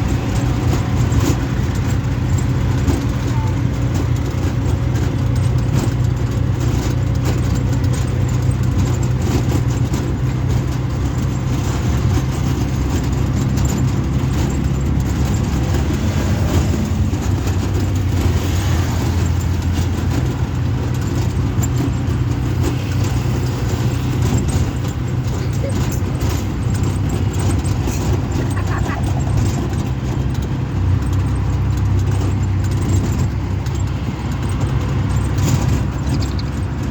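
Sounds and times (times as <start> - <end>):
auto-rickshaw engine running: 0.0 - 36.9
road noise: 0.0 - 36.9.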